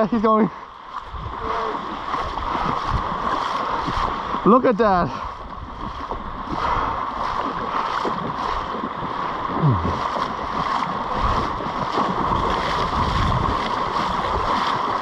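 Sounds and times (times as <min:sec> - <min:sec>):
surf washing in shallows: 0:00.0 - 0:15.0.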